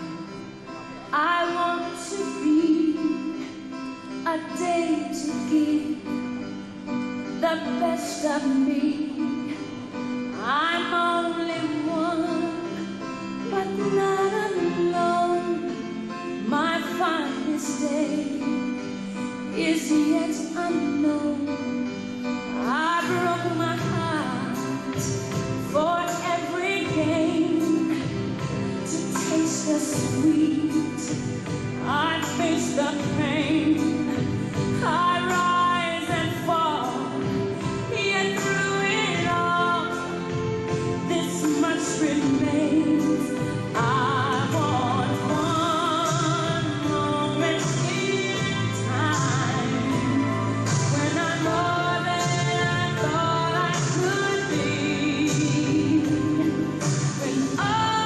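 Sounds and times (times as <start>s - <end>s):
instrumental backing: 0.0s - 58.0s
woman singing: 1.0s - 6.6s, 7.2s - 58.0s.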